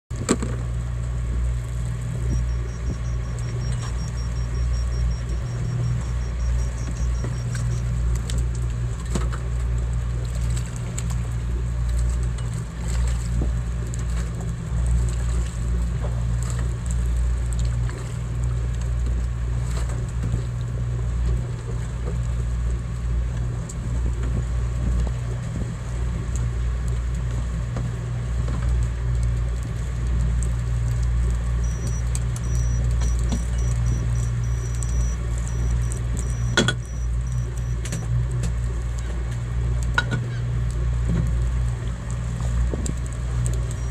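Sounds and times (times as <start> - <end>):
boat engine low drone: 0.1 - 43.9.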